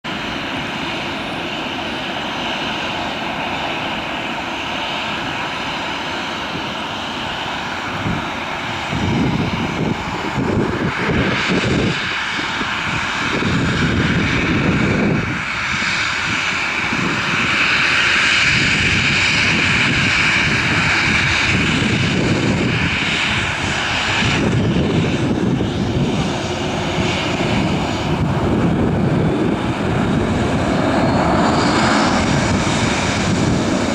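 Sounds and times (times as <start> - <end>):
jet engines roaring at takeoff: 0.0 - 33.9.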